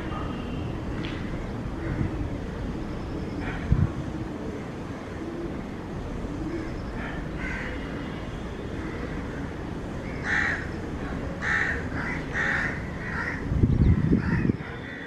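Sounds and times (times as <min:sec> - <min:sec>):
steady low rumble: 0:00.0 - 0:14.8
bird calling: 0:00.0 - 0:15.0.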